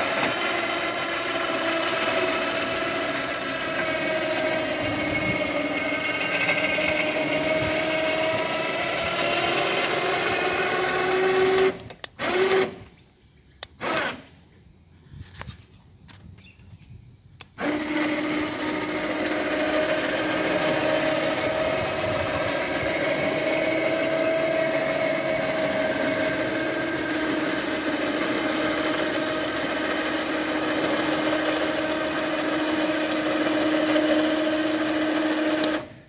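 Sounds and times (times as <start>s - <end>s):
electric winch whining: 0.0s - 12.9s, 13.7s - 14.3s, 17.4s - 36.0s.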